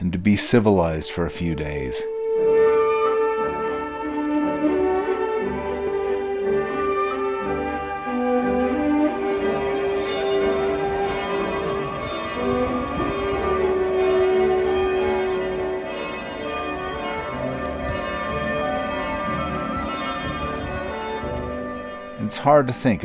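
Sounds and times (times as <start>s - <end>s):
church bells pealing: 1.3s - 23.0s.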